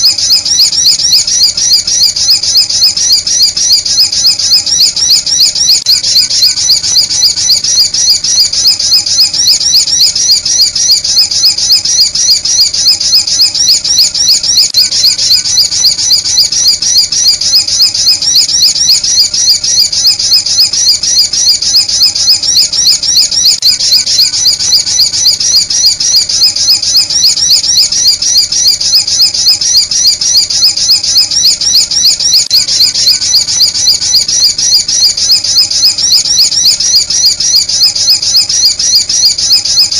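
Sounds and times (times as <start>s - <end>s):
high-pitched bird chirps: 0.0s - 39.9s.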